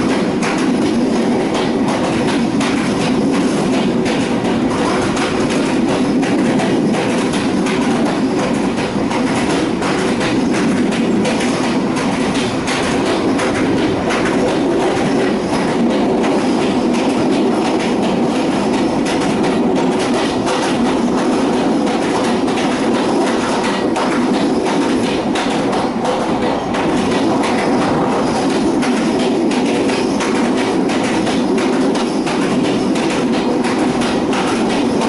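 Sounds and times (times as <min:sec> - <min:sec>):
train rumble: 0:00.0 - 0:35.0
train wheels clicking on rails: 0:00.0 - 0:35.0.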